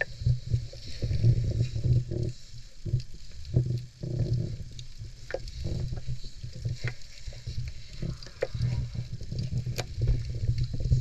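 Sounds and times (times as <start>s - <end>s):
muffled underwater water rumble: 0.0s - 11.0s
sharp crackling clicks: 1.8s - 11.0s.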